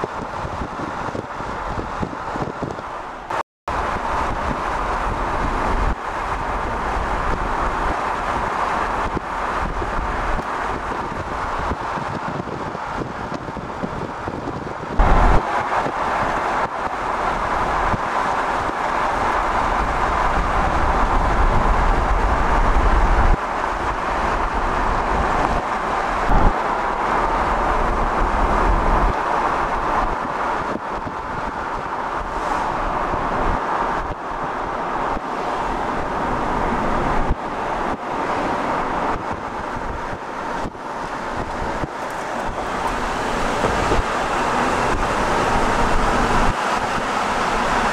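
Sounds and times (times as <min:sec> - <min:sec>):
road and tyre noise: 0:00.0 - 0:47.9
wind buffeting microphone: 0:00.0 - 0:47.9.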